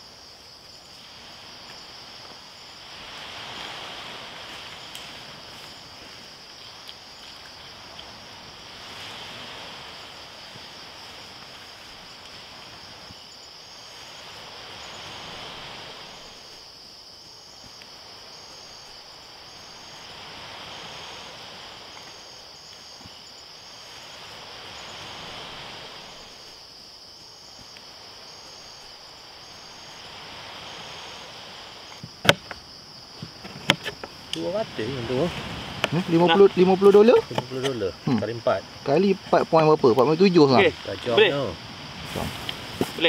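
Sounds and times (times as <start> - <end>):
insects buzzing: 0.0 - 43.0.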